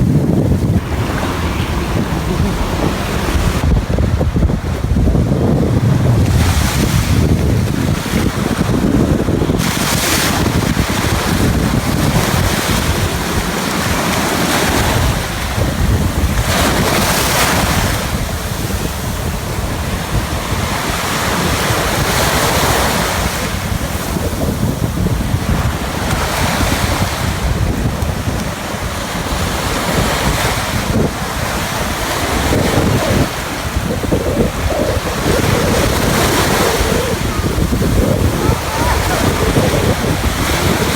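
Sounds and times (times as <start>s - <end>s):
ocean surf washing onto beach: 0.0s - 40.9s
wind buffeting microphone: 0.0s - 40.9s.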